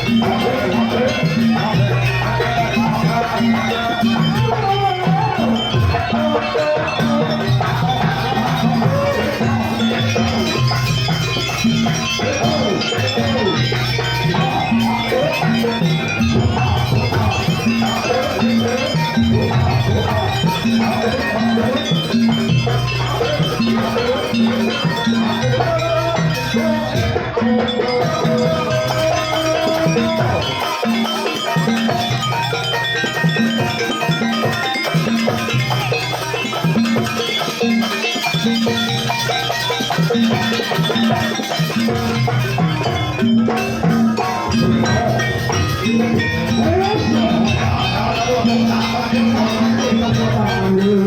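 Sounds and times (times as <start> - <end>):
pitched percussion low notes: 0.0 - 51.0
traditional gamelan-style music: 0.0 - 51.0.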